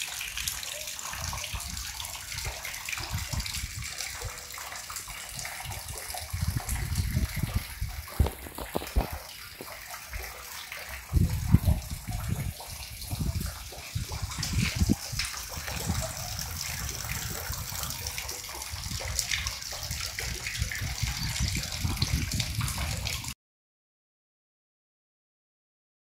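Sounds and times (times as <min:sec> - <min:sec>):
water rushing: 0:00.0 - 0:23.4.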